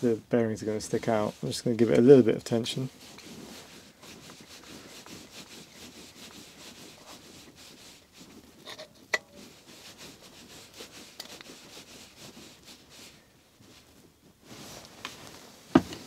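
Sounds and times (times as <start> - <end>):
tool rubbing and handling: 1.1 - 16.0.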